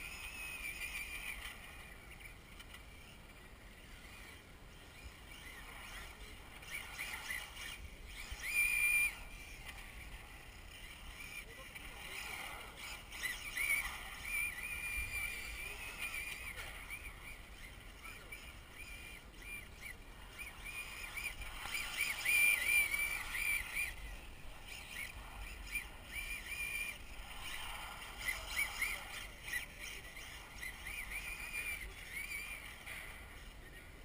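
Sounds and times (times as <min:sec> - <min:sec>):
electric motor high-pitched whine: 0:00.0 - 0:34.0.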